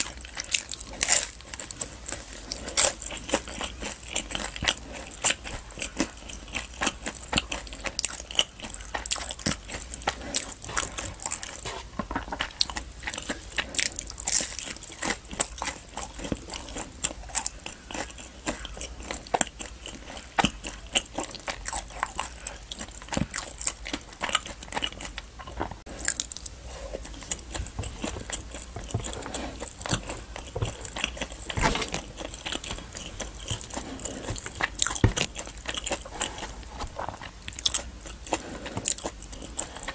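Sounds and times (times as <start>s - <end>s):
close chewing of food: 0.0s - 39.9s.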